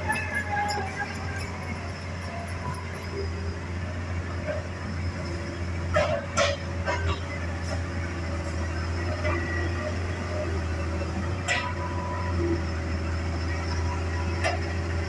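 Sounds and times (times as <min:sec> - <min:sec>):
excavator diesel engine drone: 0:00.0 - 0:15.0.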